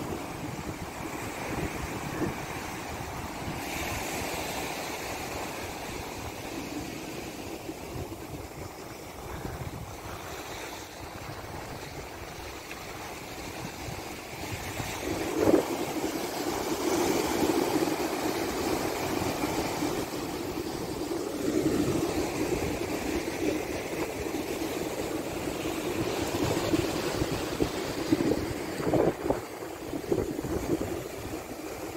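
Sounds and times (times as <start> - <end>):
surf breaking on beach: 0.0 - 31.9
wind buffeting microphone: 0.0 - 31.9.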